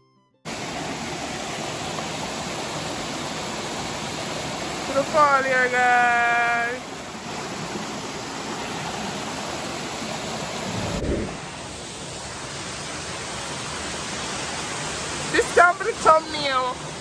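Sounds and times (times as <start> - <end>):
waterfall and stream rushing: 0.5 - 17.0.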